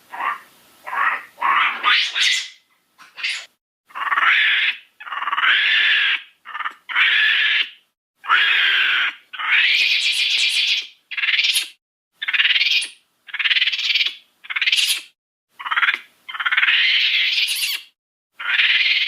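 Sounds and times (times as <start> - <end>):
high-pitched primate calls: 0.1 - 19.0.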